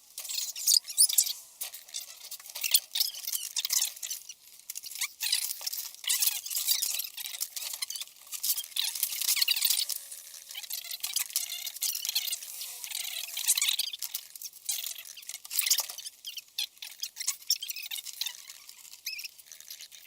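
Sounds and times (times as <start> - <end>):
bicycle chain clicks and scrapes: 0.1 - 20.0.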